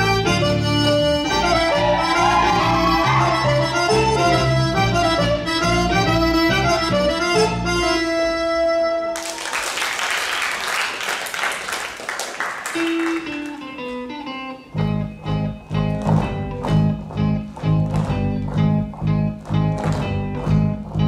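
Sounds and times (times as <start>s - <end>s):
traditional dance music: 0.0s - 9.9s, 12.3s - 21.0s.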